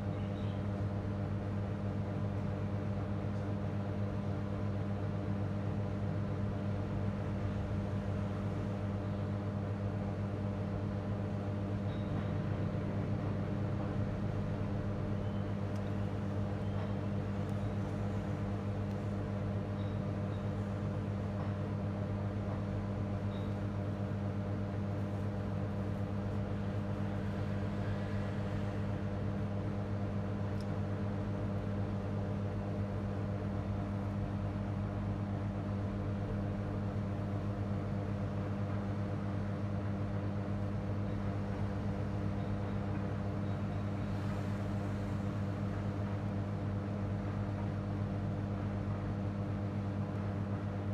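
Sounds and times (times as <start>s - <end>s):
low machine hum: 0.0s - 50.9s.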